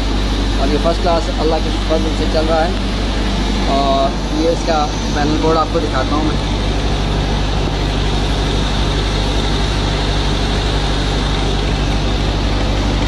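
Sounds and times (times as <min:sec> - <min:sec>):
generator engine running steadily: 0:00.0 - 0:13.0.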